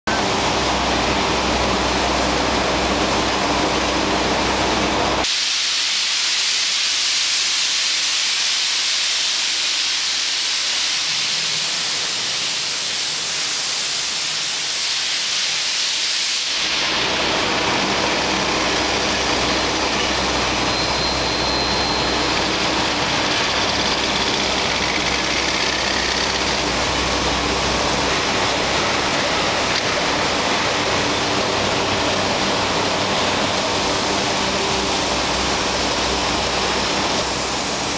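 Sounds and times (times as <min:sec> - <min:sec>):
machine hiss: 0:05.1 - 0:37.9.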